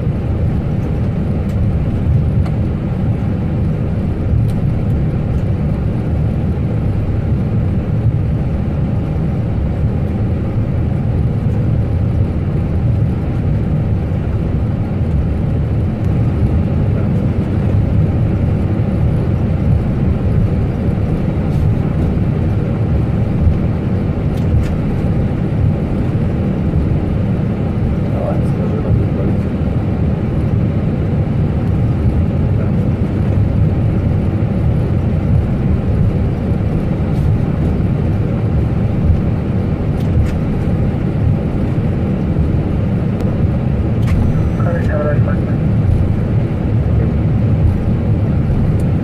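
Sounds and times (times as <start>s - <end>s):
airliner engine rumble: 0.0s - 49.0s.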